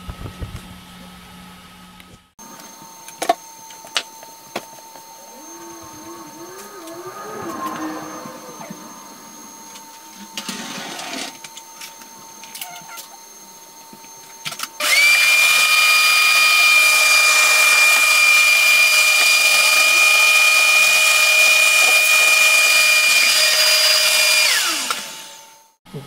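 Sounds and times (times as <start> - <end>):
shop vacuum running: 0.0 - 26.0.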